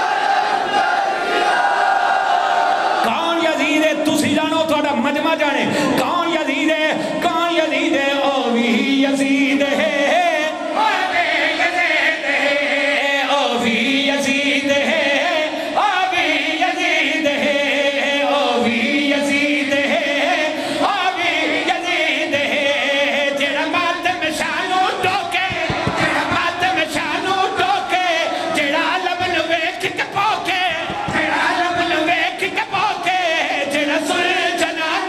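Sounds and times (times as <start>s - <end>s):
man chanting over loudspeakers: 3.0s - 10.7s, 11.8s - 35.0s.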